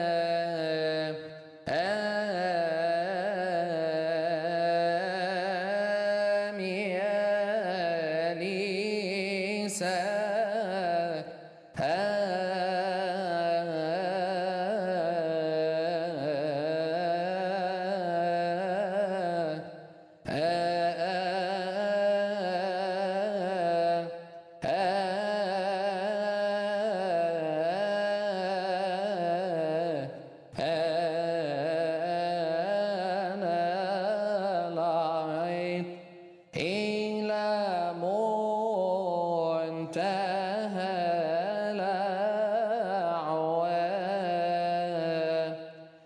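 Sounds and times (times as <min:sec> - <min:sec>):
man singing a hymn: 0:00.0 - 0:45.6.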